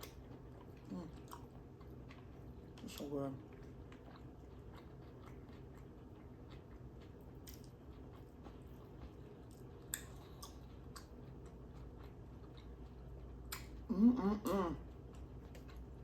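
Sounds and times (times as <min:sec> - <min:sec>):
chewing with wet mouth clicks: 0:00.0 - 0:16.0.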